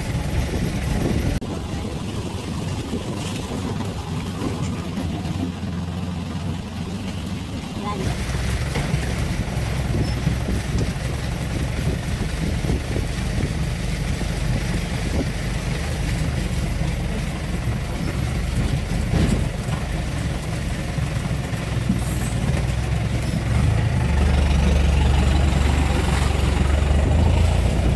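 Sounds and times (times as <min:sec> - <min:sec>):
car engine running under load: 0:00.0 - 0:27.9.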